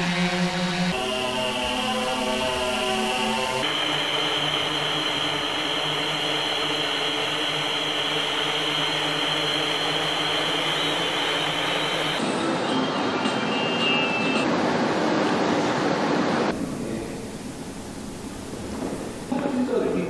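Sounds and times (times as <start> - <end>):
drone propellers buzzing whine: 0.0 - 14.9, 16.5 - 20.0.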